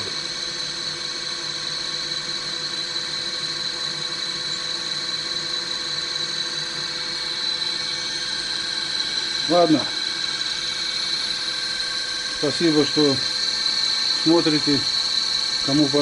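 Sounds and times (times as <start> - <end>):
electric motor whine and hum: 0.0 - 16.0.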